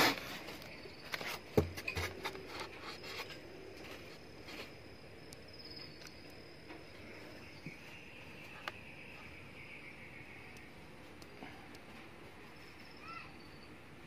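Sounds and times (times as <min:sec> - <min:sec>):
faint steady high tone: 0:02.6 - 0:14.0.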